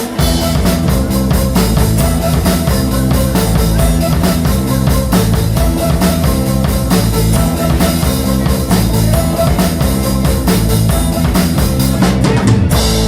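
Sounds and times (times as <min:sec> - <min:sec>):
drum kit pounding: 0:00.0 - 0:13.0
rock band playing live: 0:00.0 - 0:13.0.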